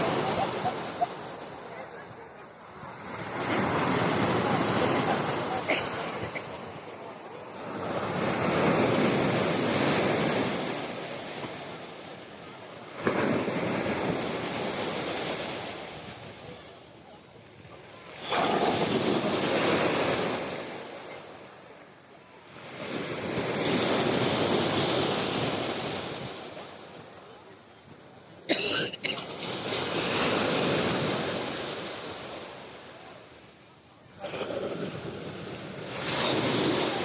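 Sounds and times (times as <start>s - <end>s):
waves crashing: 0.0s - 37.0s
waves rushing on beach: 0.0s - 37.0s.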